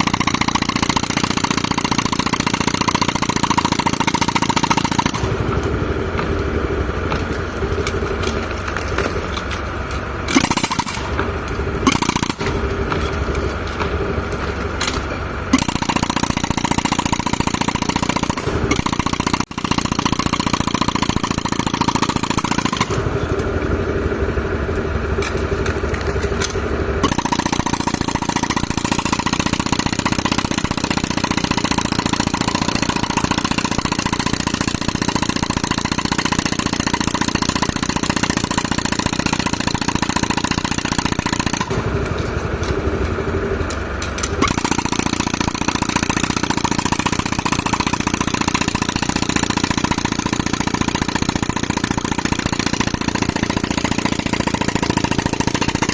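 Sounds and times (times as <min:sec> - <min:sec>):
tractor engine running compressor: 0:00.0 - 0:55.9.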